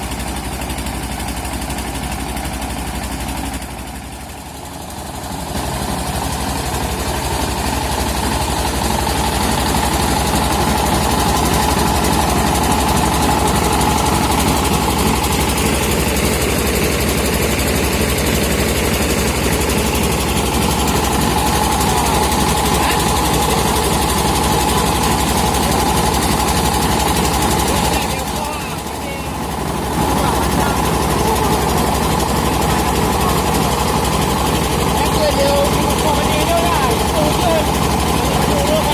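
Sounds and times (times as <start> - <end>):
rice milling machine engine running: 0.0 - 38.9.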